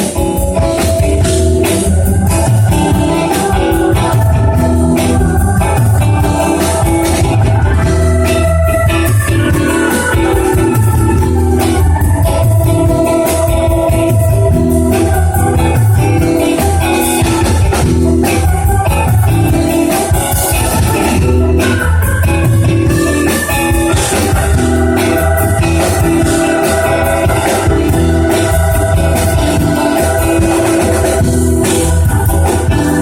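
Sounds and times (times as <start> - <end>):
band music with organ: 0.0 - 33.0
repeating bass line: 0.0 - 33.0.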